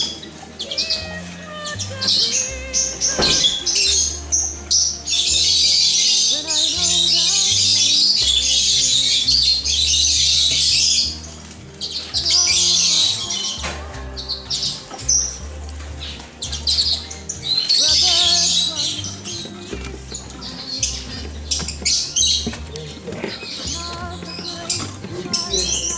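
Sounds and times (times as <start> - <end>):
background music with bass line: 0.0 - 25.9
small birds chirping and twittering: 0.0 - 25.9.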